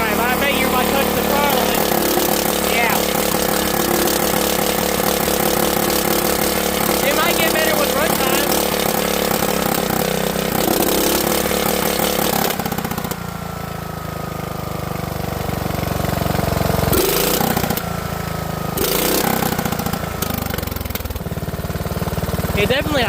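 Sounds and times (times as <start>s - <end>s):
small lawnmower engine idling: 0.0s - 23.0s.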